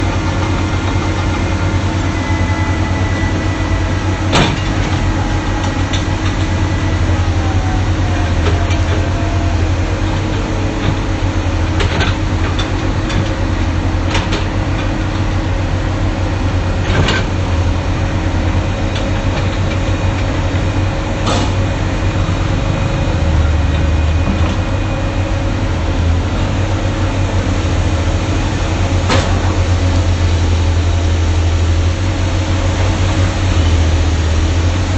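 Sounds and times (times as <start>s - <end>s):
excavator diesel engine rumbling: 0.0s - 34.9s.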